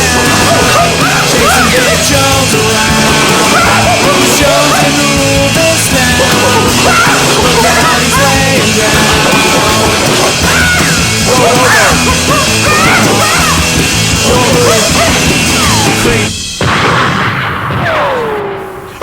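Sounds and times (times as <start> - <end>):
punk rock music: 0.0 - 19.0.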